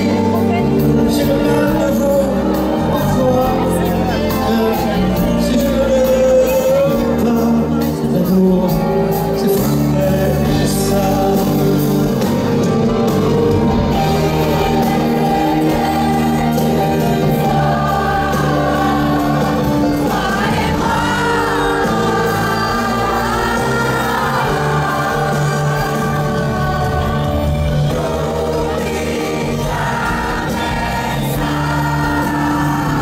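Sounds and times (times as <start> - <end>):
live piano ballad with singing: 0.0 - 33.0.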